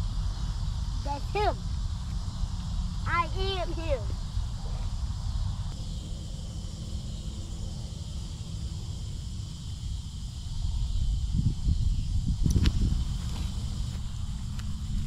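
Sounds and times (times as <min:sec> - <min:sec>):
steady high hiss: 0:00.0 - 0:15.0
wind rumbling on microphone: 0:00.0 - 0:15.0.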